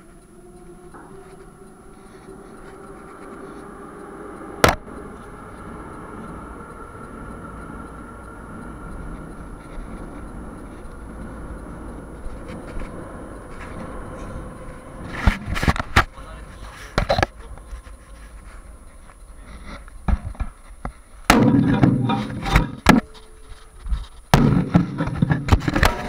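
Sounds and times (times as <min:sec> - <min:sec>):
metro train rumbling with whine: 0:00.0 - 0:26.0.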